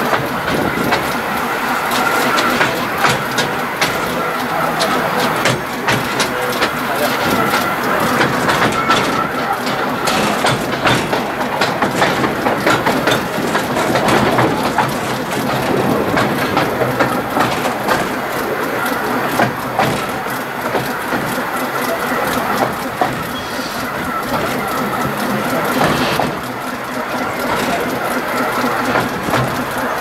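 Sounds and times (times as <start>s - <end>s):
train rattling along track: 0.0s - 30.0s.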